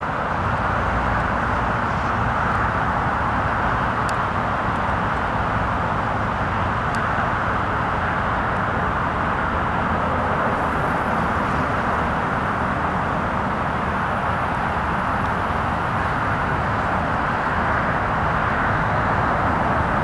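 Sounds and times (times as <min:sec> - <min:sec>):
train rumbling along track: 0:00.0 - 0:20.0.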